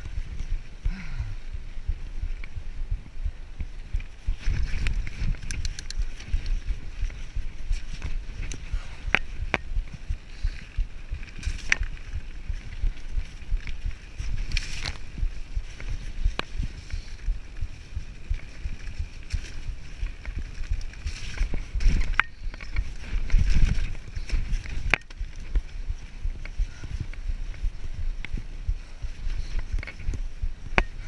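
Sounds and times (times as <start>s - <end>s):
bike rattles and clicks: 0.0s - 31.0s
bike tyres rumbling over rough trail: 0.0s - 31.0s.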